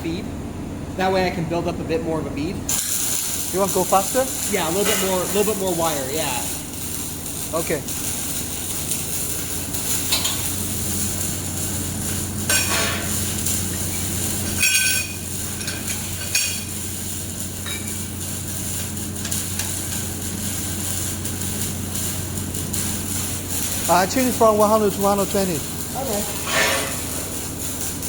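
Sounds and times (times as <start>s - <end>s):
laser welder humming: 2.4s - 28.0s.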